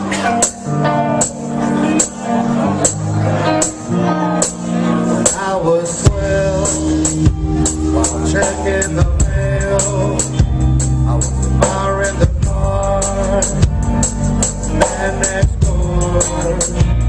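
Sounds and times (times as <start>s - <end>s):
drum kit beat: 0.0s - 17.0s
electric guitars sustained notes: 0.0s - 17.0s
live rock band playing: 0.0s - 17.0s.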